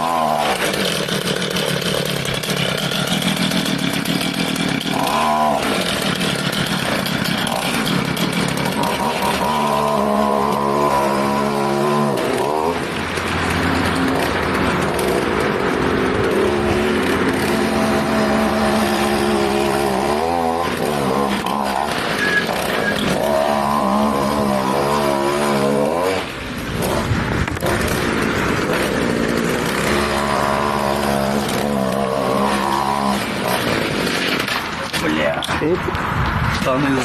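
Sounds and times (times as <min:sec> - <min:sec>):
two-stroke moped engine revving: 0:00.0 - 0:36.0.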